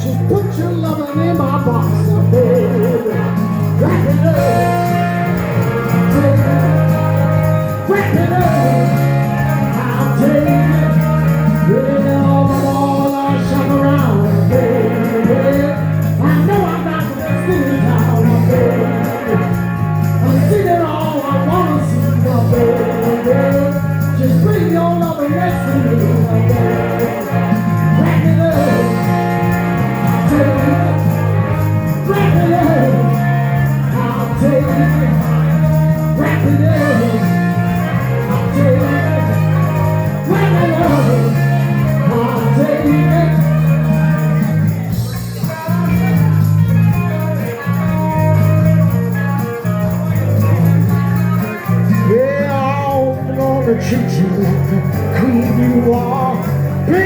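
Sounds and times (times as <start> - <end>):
live band playing: 0.0 - 57.0.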